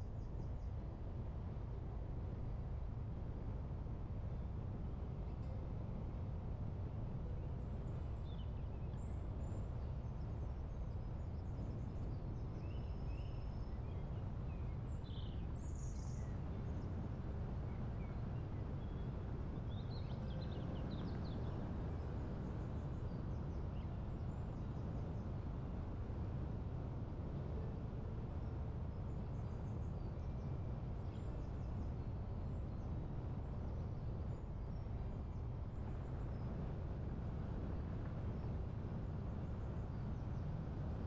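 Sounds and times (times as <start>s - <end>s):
low wind noise: 0.0s - 41.0s.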